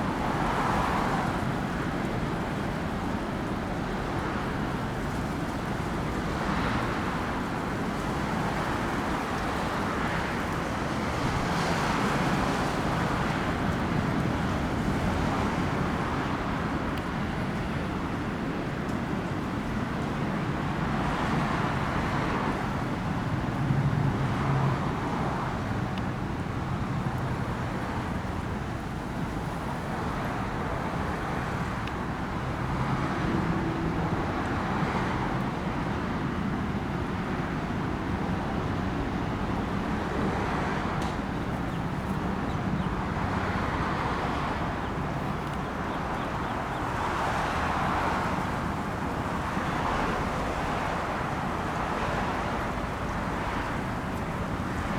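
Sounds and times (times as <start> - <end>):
rumble of passing cars: 0.0 - 54.9.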